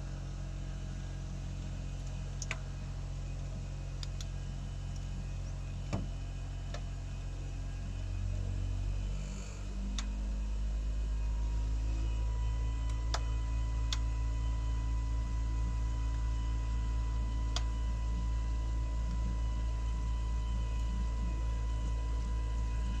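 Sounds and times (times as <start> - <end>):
heat pump low hum: 0.0 - 23.0.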